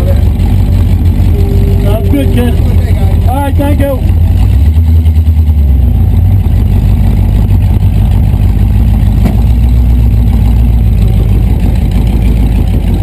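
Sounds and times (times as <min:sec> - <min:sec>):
pickup engine and exhaust pulsing: 0:00.0 - 0:13.0.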